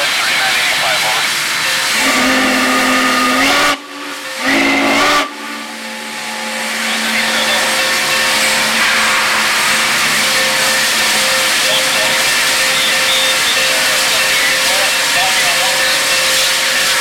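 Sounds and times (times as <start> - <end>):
steam hissing: 0.0 - 17.0
steam whistle blasts: 1.8 - 17.0.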